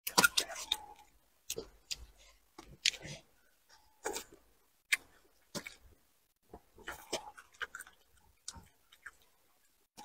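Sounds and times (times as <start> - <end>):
person chewing crunchy food: 0.0 - 10.0.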